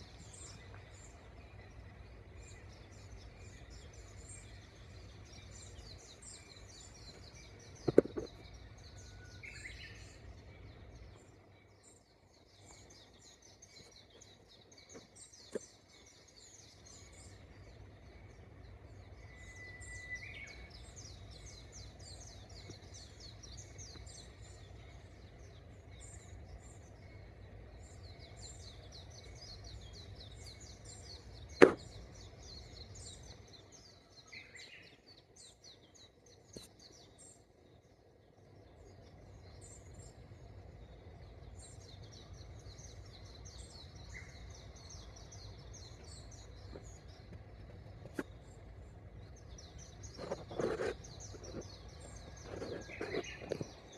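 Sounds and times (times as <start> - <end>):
low steady background rumble: 0.0 - 53.9
small birds chirping: 0.0 - 53.9.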